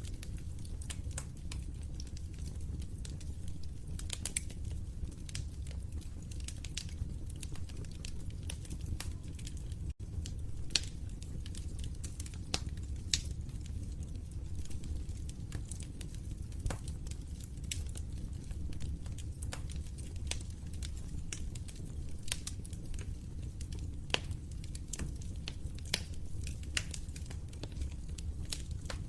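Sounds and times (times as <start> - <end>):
fire pops and snaps: 0.0 - 29.0
low rumble of burning: 0.0 - 29.0
wood fire crackling: 0.0 - 29.0.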